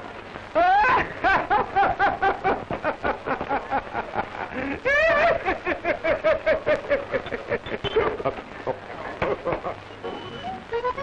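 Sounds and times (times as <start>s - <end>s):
man laughing hard: 0.6s - 9.8s.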